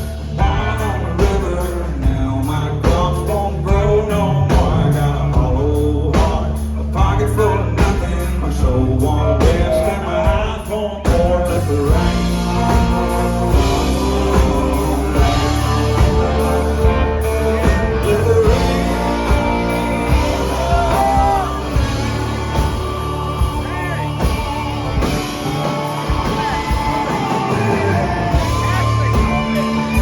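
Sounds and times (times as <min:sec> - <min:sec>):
person singing: 0:00.0 - 0:30.0
rock band playing: 0:00.0 - 0:30.0.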